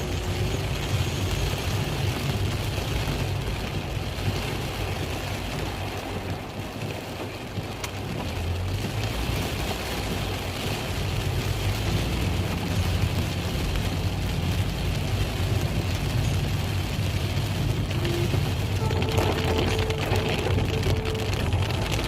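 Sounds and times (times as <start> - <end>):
rain hiss: 0.0 - 22.0
vehicle engine hum: 0.0 - 22.0.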